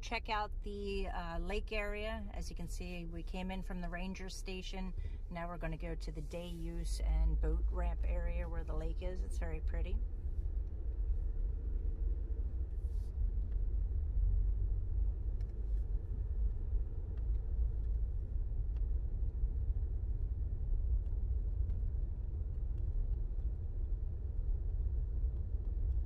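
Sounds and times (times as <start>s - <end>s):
vehicle engine and tyre rumble: 0.0s - 26.0s.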